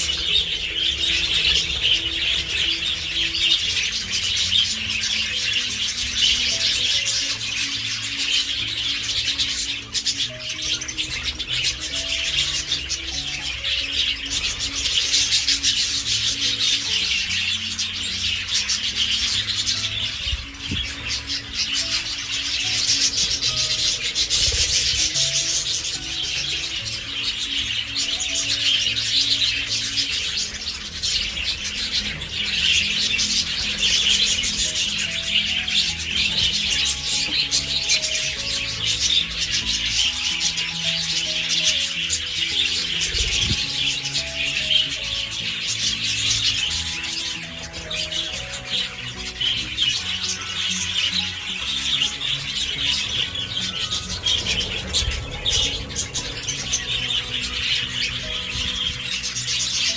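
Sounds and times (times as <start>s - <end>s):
background music: 0.0s - 59.9s
budgerigars twittering: 0.0s - 59.9s.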